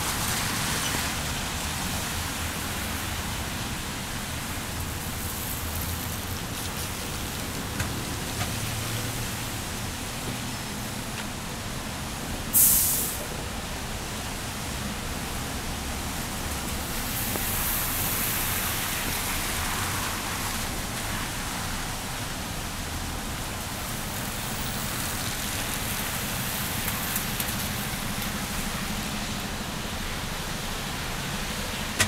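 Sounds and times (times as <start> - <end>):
rain hiss: 0.0 - 32.0
traffic on wet street: 0.0 - 32.0.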